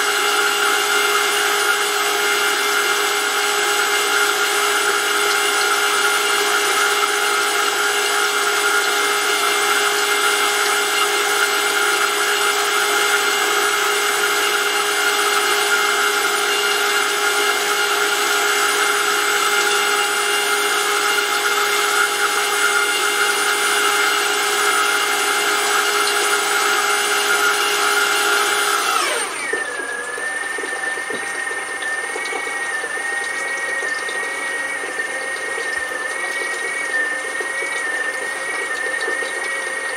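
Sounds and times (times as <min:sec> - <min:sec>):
electric pump motor whining: 0:00.0 - 0:39.9.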